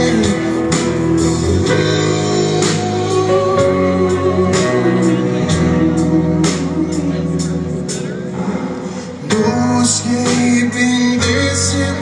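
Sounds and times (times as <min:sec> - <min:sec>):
steady drum beat: 0:00.0 - 0:12.0
sustained guitar chords: 0:00.0 - 0:12.0.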